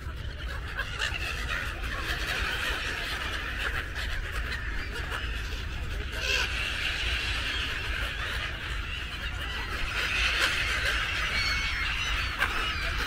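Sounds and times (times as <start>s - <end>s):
flock of gulls calling: 0.0s - 13.0s.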